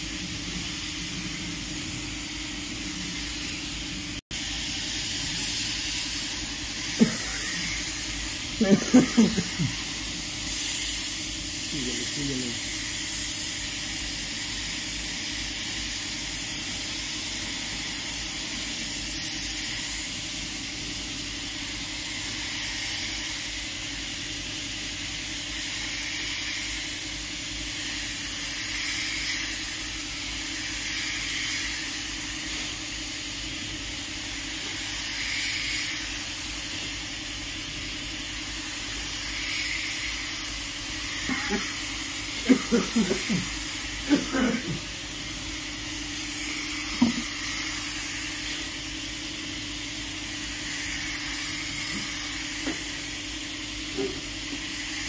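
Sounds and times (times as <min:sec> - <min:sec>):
spray gun hissing: 0:00.0 - 0:55.0.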